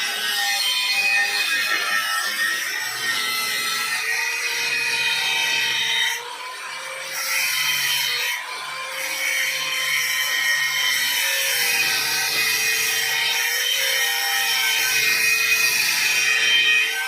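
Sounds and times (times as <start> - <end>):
small power tool whining: 0.0 - 17.0.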